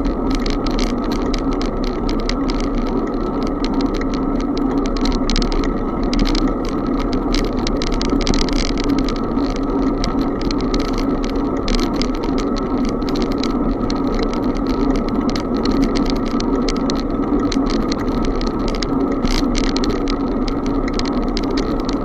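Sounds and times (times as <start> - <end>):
bicycle rattling clicks: 0.0 - 22.0.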